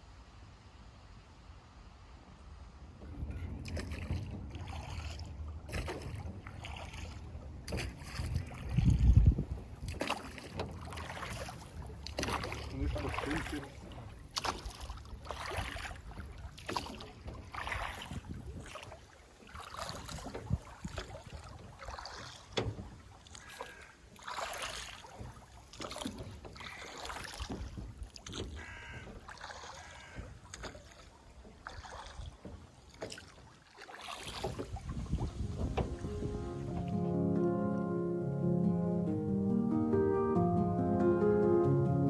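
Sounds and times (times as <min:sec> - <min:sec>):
water splashing against boat hull: 0:02.7 - 0:37.9.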